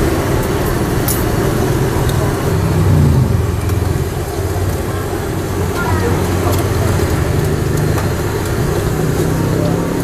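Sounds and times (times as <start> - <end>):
low rumble of road traffic: 0.0 - 10.0
vehicle passing: 0.0 - 10.0.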